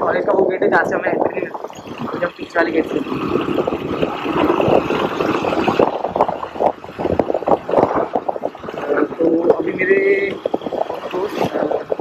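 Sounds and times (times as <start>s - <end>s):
road noise: 0.0s - 12.0s
wind buffeting microphone: 0.0s - 12.0s
scooter engine running: 1.6s - 12.0s.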